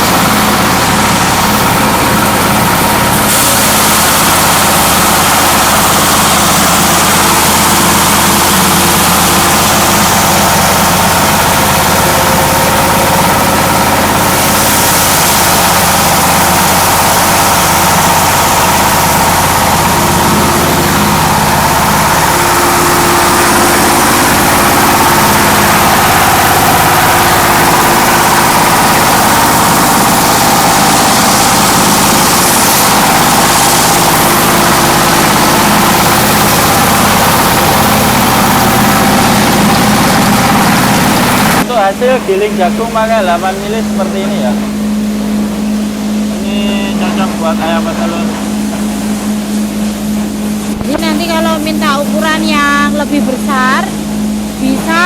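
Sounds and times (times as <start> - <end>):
diesel engine running a hammer mill: 0.0 - 55.0.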